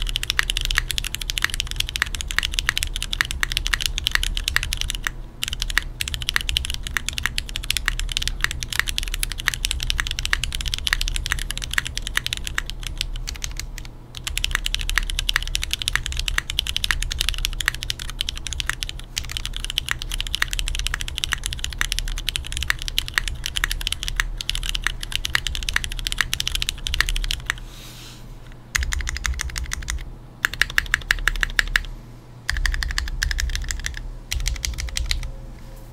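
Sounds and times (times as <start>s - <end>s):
mechanical keyboard typing: 0.0s - 27.6s, 28.7s - 31.9s, 32.5s - 35.3s.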